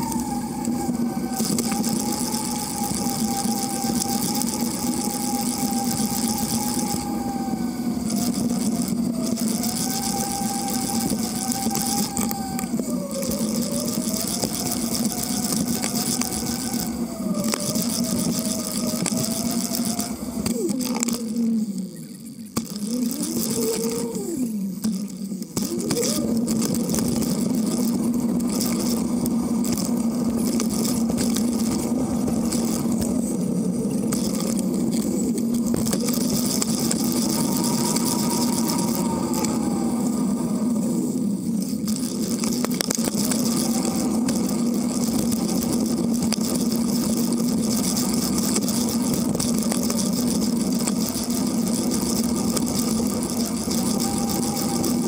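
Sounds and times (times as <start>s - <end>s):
bicycle wheels humming: 0.0s - 55.0s
wind hissing on microphone: 0.0s - 55.0s.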